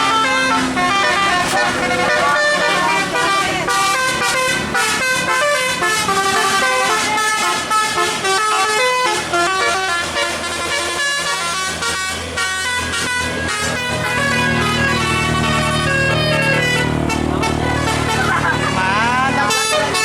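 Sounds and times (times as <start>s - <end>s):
musical air horn melody: 0.0s - 20.0s.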